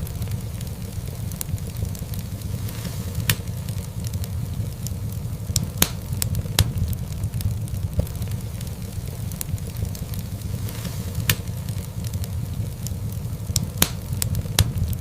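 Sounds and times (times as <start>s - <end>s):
sharp pops of burning logs: 0.0s - 15.0s
wood fire crackling: 0.0s - 15.0s.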